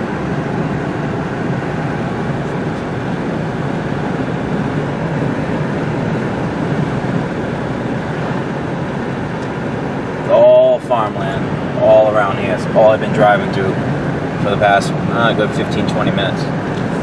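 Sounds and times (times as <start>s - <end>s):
truck cab driving rumble: 0.0s - 17.0s.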